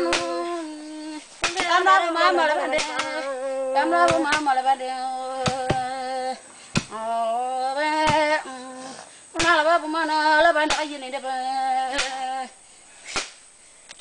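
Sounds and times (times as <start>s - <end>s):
women chanting: 0.0s - 12.5s.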